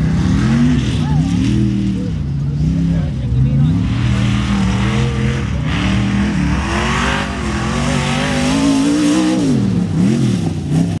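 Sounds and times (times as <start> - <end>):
race truck engine revving: 0.0 - 11.0.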